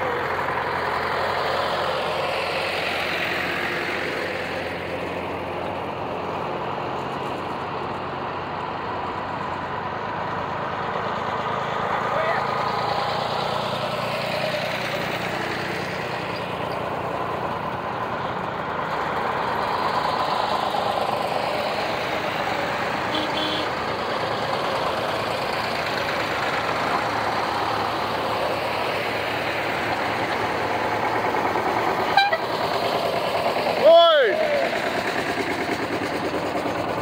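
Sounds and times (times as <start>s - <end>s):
tractor engines driving past: 0.0s - 37.0s.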